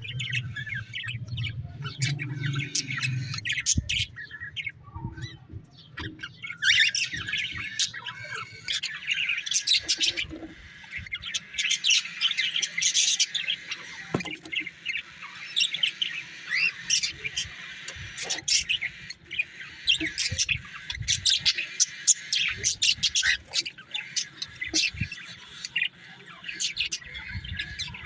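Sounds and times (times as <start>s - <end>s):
small birds chirping and twittering: 0.0s - 28.0s.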